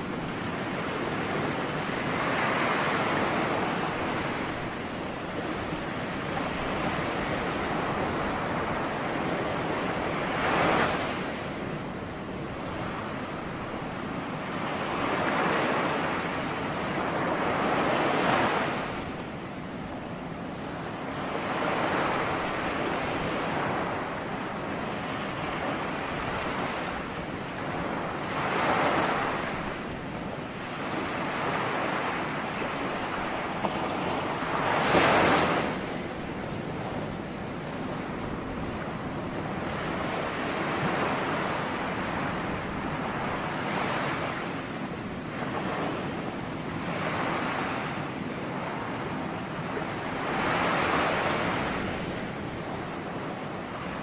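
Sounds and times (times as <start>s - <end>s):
ocean waves breaking on a shore: 0.0s - 54.0s.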